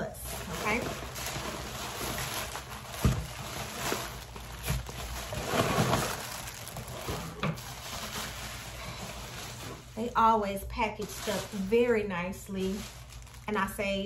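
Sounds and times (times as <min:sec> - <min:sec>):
plastic crackles: 0:00.0 - 0:14.0
plastic wrap rustling: 0:00.0 - 0:14.0.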